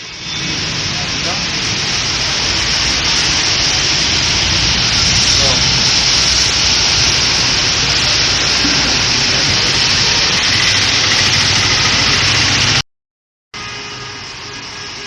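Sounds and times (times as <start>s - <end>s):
heavy rain falling: 0.0s - 12.8s
engine humming: 0.1s - 12.8s.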